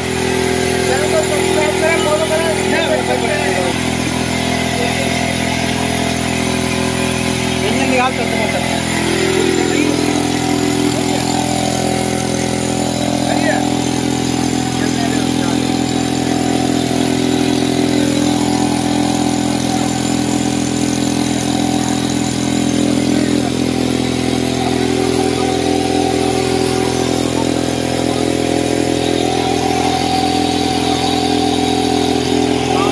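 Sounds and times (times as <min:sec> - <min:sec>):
motorcycle engine running steadily: 0:00.0 - 0:32.9.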